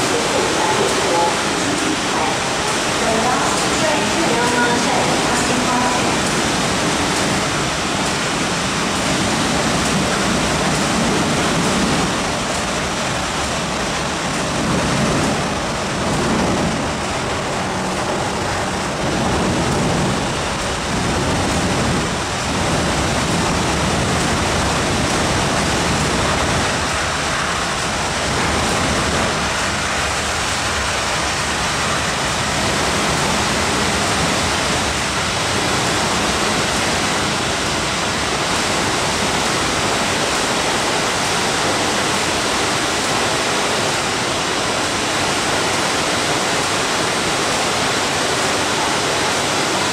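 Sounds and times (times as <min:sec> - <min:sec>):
train passing through station: 0:00.0 - 0:49.9.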